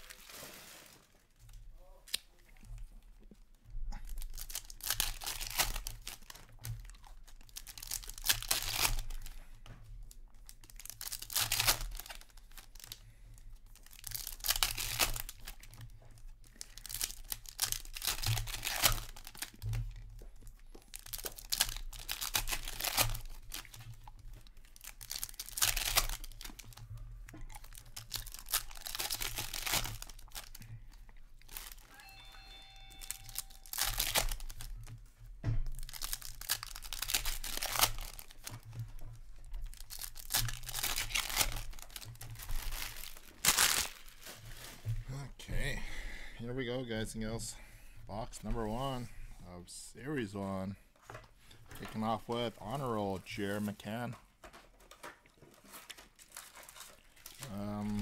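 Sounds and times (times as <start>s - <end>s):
foil wrappers tearing and crinkling: 0.0s - 1.4s, 4.0s - 45.0s, 51.5s - 58.0s.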